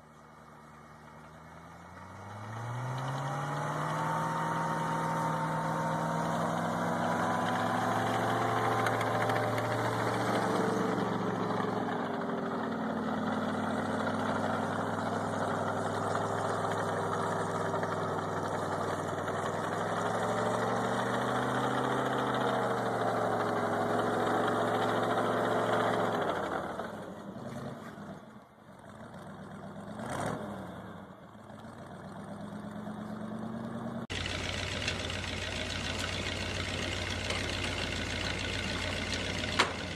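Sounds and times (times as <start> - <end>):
heavy vehicle engine running: 0.0 - 30.1, 30.8 - 39.9.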